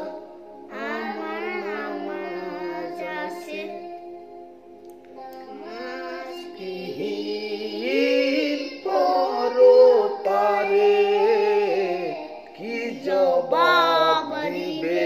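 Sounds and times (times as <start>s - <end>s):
boy and man singing: 0.0s - 4.1s, 5.1s - 15.0s.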